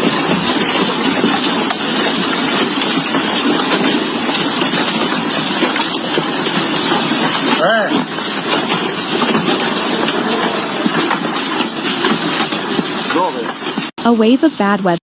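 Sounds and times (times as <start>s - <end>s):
roar of falling hail and rain: 0.0s - 13.9s.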